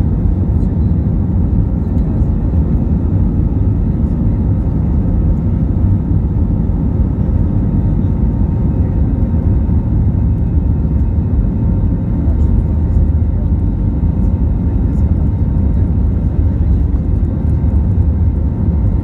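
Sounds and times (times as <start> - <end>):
jet engines and wheels rumbling: 0.0 - 19.0.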